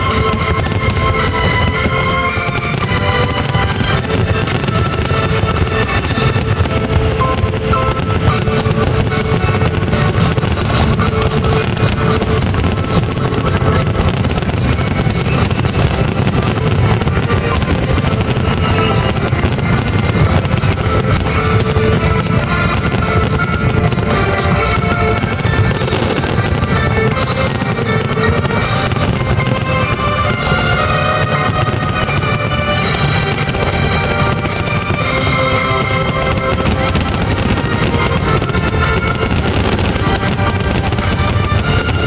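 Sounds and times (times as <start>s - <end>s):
fireworks bursting and crackling: 0.0s - 42.0s
loud music: 0.0s - 42.0s.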